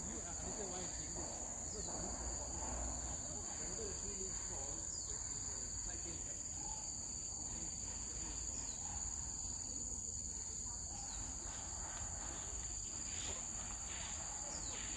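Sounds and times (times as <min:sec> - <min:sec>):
insects droning: 0:00.0 - 0:14.9.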